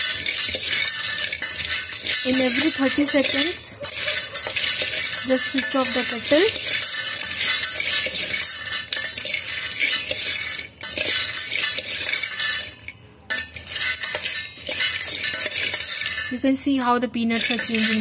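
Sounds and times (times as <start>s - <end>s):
spoon stirring nuts in metal pot: 0.0s - 18.0s.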